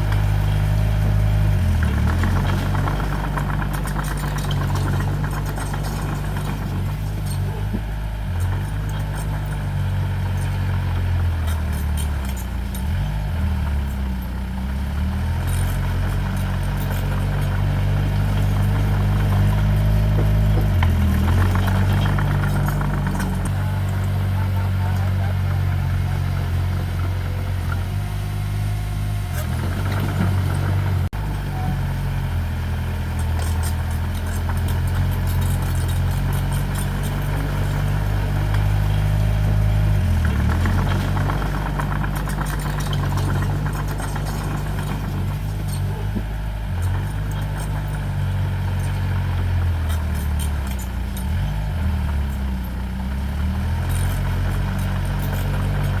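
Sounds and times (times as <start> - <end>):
heavy machinery diesel engine running: 0.0 - 56.0.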